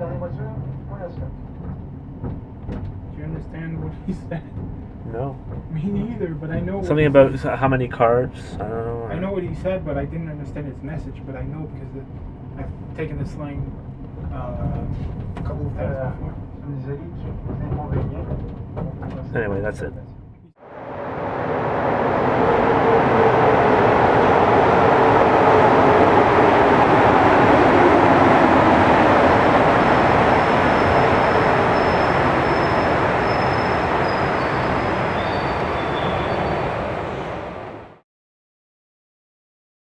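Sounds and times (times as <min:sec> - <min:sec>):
train wheels rumbling on track: 0:00.0 - 0:20.0, 0:20.6 - 0:38.0.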